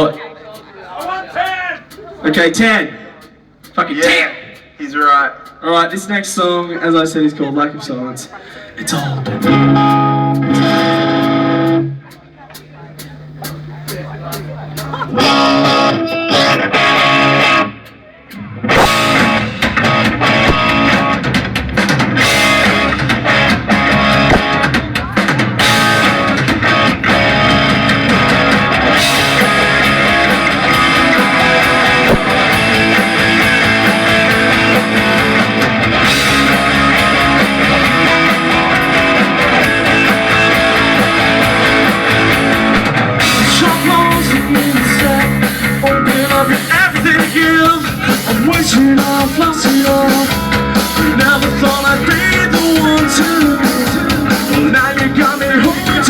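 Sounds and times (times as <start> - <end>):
drum kit: 0.0 - 6.6, 8.8 - 56.0
electric guitars: 8.7 - 56.0.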